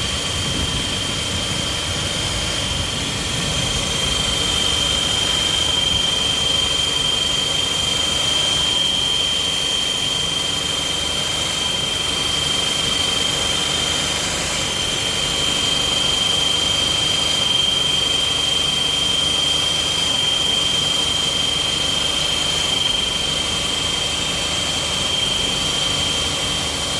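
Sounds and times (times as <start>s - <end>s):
car engine running: 0.0s - 26.9s
high-pitched squeal: 0.0s - 26.9s.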